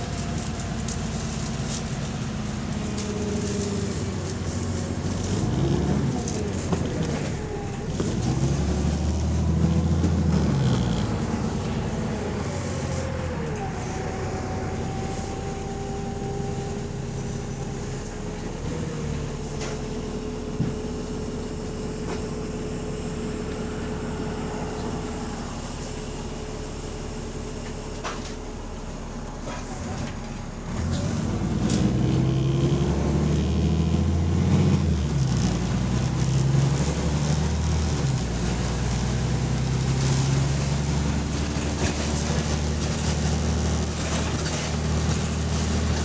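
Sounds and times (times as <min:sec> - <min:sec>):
bus engine running: 0:00.0 - 0:46.0
drivetrain whine: 0:00.0 - 0:46.0.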